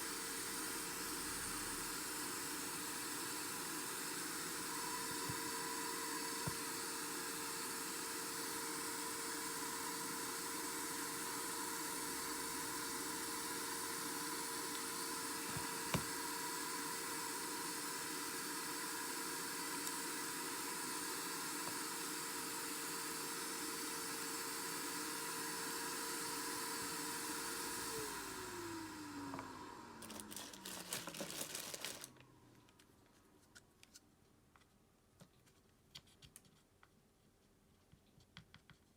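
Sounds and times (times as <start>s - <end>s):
hot-air blower whining: 0.0s - 32.5s.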